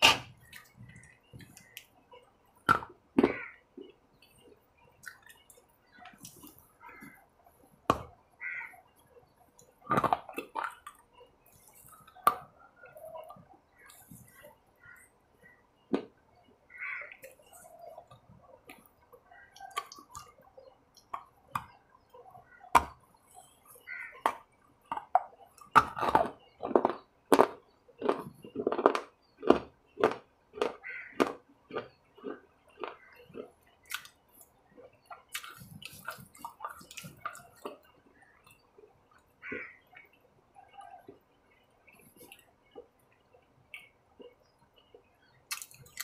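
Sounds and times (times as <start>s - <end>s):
crunchy chewing of snack bar: 0.0s - 15.1s, 16.8s - 40.2s, 40.8s - 46.0s.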